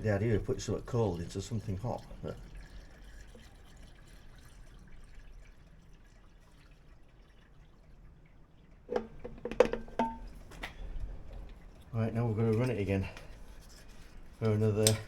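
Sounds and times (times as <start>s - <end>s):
liquid trickling into engine: 0.0s - 15.0s.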